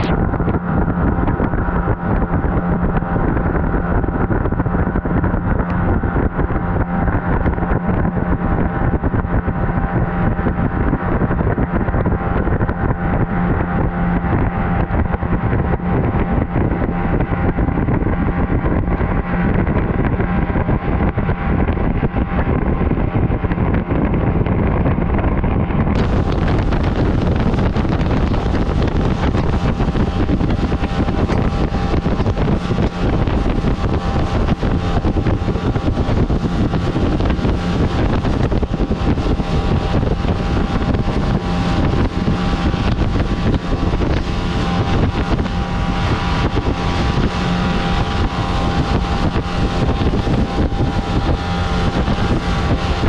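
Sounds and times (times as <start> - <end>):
boat motor running: 0.0 - 53.0
water rushing past hull: 0.0 - 53.0
wind buffeting microphone: 0.0 - 53.0.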